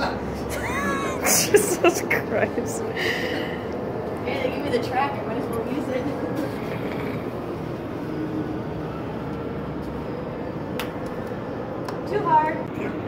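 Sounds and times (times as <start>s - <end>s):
indoor amusement park din: 0.0s - 13.0s.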